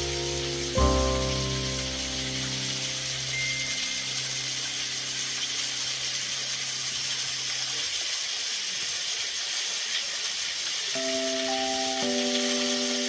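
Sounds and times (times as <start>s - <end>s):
small waterfall splashing: 0.0s - 13.0s.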